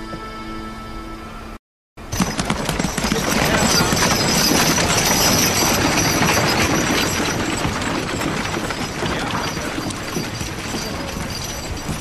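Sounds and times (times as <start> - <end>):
horses' hooves: 2.0 - 12.0
rattling coach wheels: 2.0 - 12.0.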